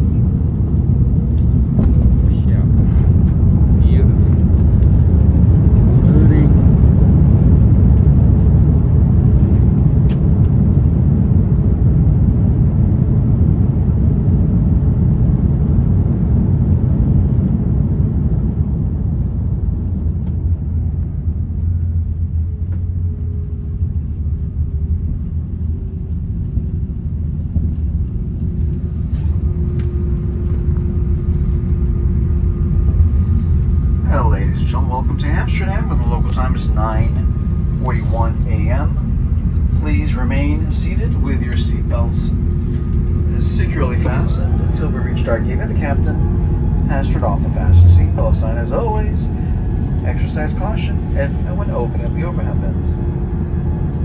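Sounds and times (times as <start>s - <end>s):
airliner cabin rumble: 0.0s - 54.0s
faint steady whine: 0.0s - 54.0s.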